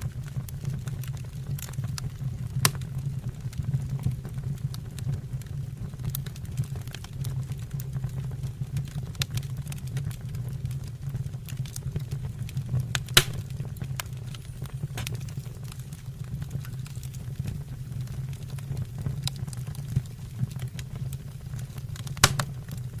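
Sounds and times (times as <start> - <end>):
wood fire crackling in a fireplace: 0.0 - 23.0.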